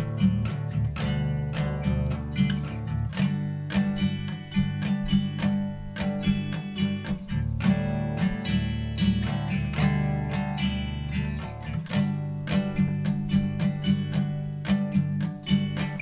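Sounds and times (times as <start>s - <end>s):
steady bass: 0.0s - 16.0s
strummed acoustic guitar: 0.0s - 16.0s.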